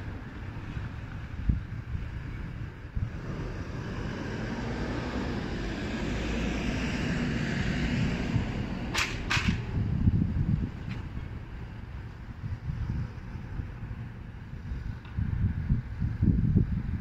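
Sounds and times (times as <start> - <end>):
wind noise: 0.0 - 17.0.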